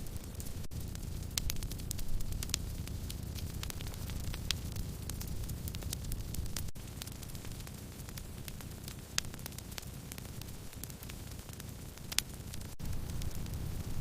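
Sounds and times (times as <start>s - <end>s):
firewood crackling and popping: 0.0s - 14.0s
low rumble of fire: 0.0s - 14.0s.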